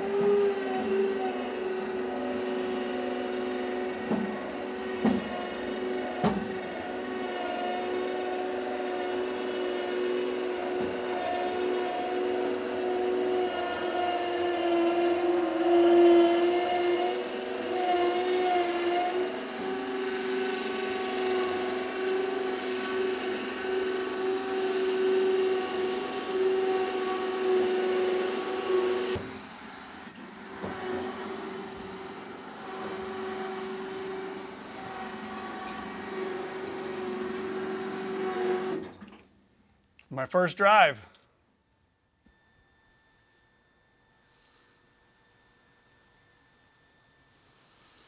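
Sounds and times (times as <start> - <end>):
electric winch motor whine: 0.0 - 39.2, 42.1 - 48.0.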